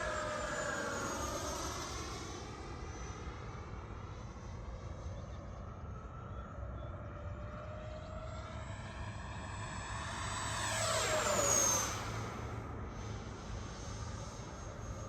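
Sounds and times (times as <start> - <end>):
ducted-fan jet whine: 0.0 - 15.0.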